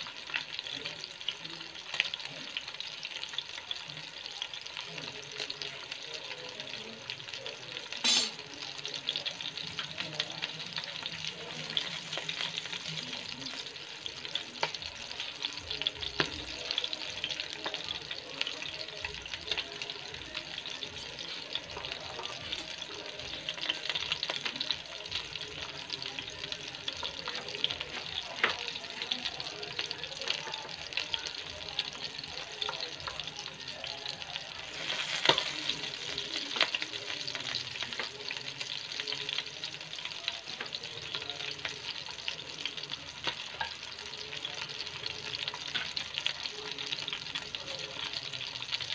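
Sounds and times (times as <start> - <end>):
hot oil sizzling in a pan: 0.0 - 48.9
oil crackling and popping: 0.0 - 48.9.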